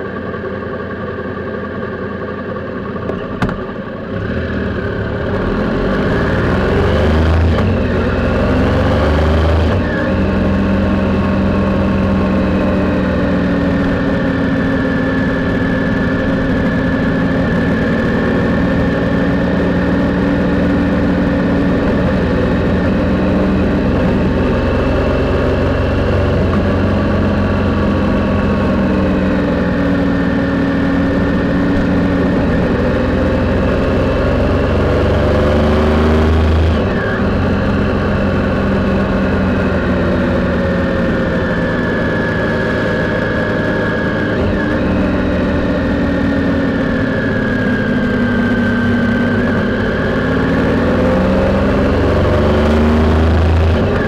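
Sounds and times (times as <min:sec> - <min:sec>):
motorcycle engine pulling away: 0:03.2 - 0:54.0.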